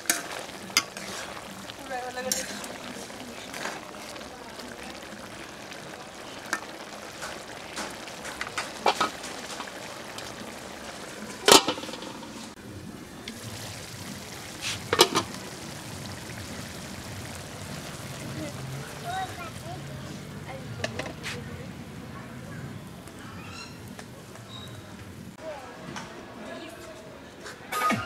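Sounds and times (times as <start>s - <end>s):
curry simmering in metal pot: 0.0s - 25.4s.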